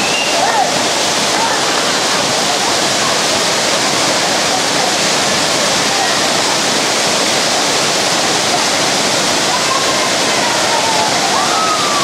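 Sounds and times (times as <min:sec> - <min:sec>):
faint voices: 0:00.0 - 0:12.0
waterfall rushing: 0:00.0 - 0:12.0.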